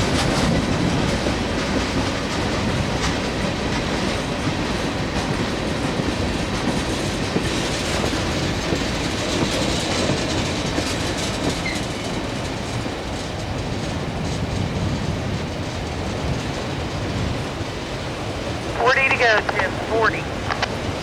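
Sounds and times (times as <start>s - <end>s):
freight train rolling on rails: 0.0s - 18.8s.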